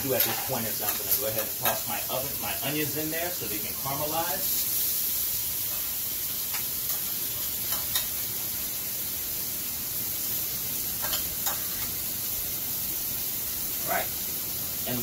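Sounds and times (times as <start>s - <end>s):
steak and onions sizzling: 0.0s - 15.0s.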